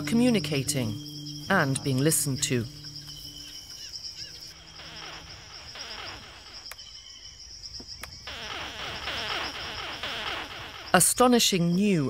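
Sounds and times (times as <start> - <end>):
turtle chirping calls: 0.0 - 11.0
high insect-like whine: 0.0 - 12.0.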